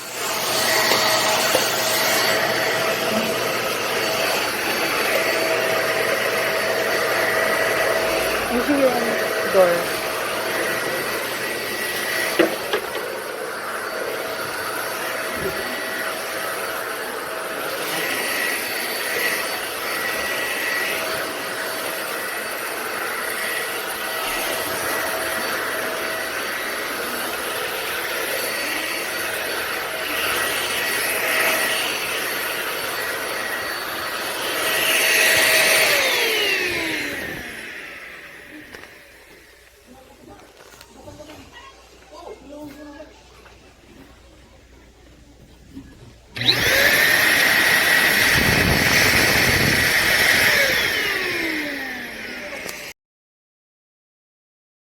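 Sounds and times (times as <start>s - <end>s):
vacuum motor winding down: 0.0s - 39.8s, 46.3s - 52.9s
vacuum cleaner running: 0.0s - 40.8s, 45.8s - 53.0s.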